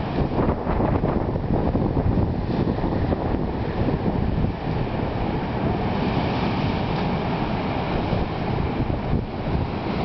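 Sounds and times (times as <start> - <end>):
ocean surf on rocks: 0.0 - 10.0
wind buffeting microphone: 0.0 - 10.0.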